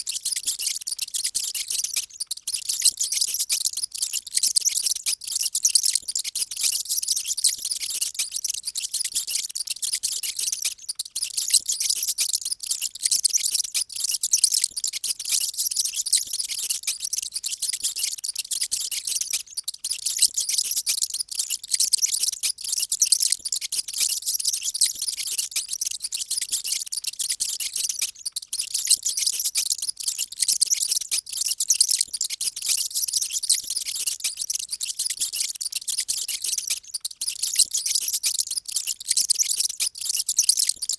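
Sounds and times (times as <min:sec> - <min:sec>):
mice squeaking: 0:00.0 - 0:40.9.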